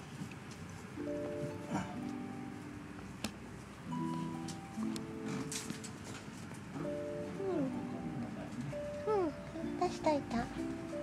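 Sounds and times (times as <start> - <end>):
soft held chord music: 0.9 - 11.0.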